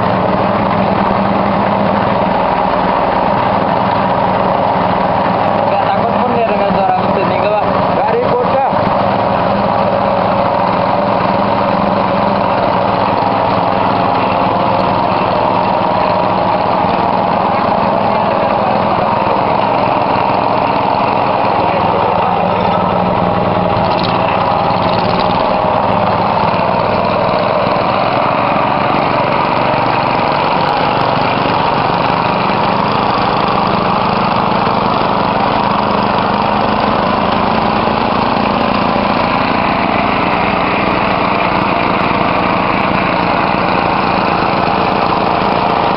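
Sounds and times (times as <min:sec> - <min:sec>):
small engine running: 0:00.0 - 0:45.9.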